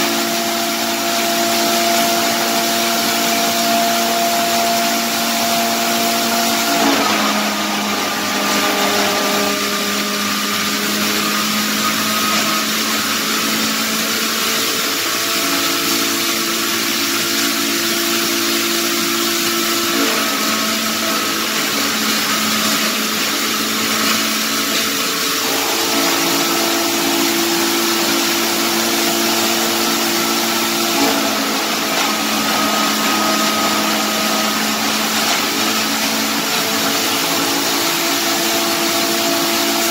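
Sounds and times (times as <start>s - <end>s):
hammer mill grinding wood chips: 0.0s - 39.9s.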